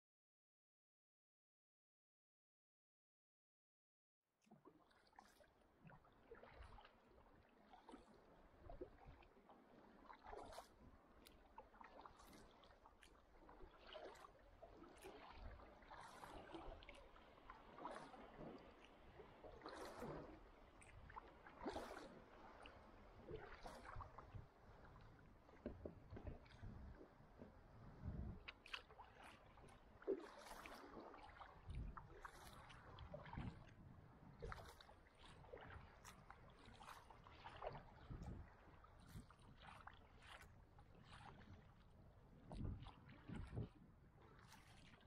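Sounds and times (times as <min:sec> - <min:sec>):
kayak paddle splashes: 0:04.5 - 0:45.0.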